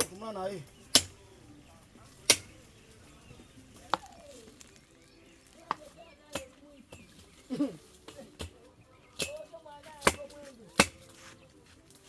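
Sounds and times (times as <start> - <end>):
faint voices: 0.0 - 12.0.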